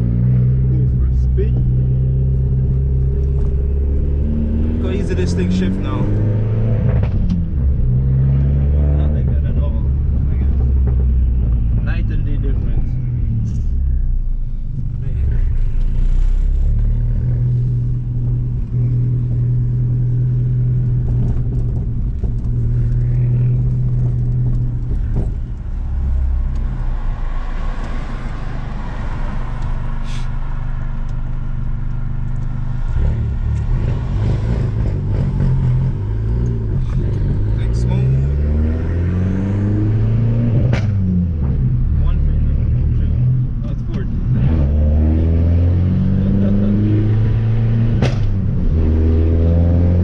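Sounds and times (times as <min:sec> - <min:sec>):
car engine droning: 0:00.0 - 0:50.0.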